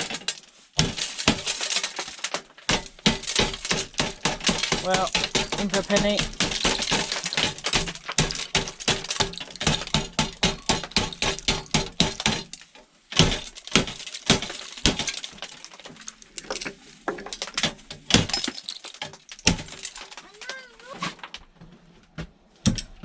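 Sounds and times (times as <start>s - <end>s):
glass pieces clinking: 0.0s - 16.7s, 17.3s - 20.7s
heavy strikes breaking glass: 0.0s - 20.7s.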